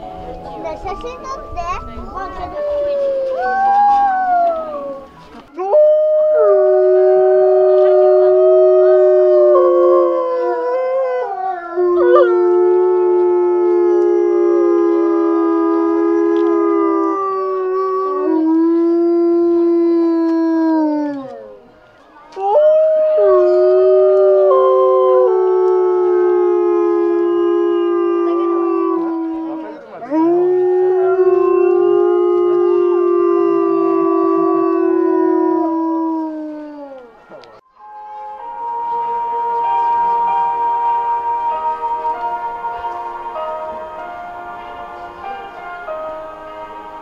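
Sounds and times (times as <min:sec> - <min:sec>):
wolves howling in chorus: 0:02.4 - 0:21.7, 0:22.4 - 0:37.2, 0:38.1 - 0:47.0.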